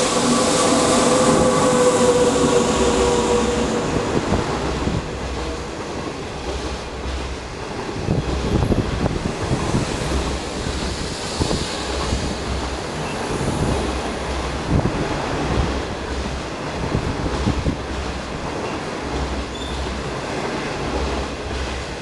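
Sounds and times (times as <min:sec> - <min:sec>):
knocks of passing train: 0:00.0 - 0:22.0
train wheels rushing on rails: 0:00.0 - 0:22.0
wind buffeting microphone: 0:00.0 - 0:22.0.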